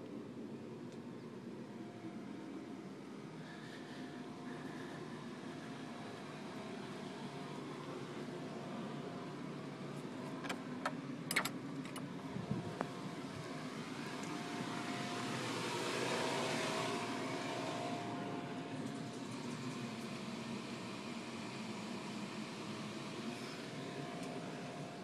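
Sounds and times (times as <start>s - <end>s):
outdoor background hum: 0.0s - 25.0s.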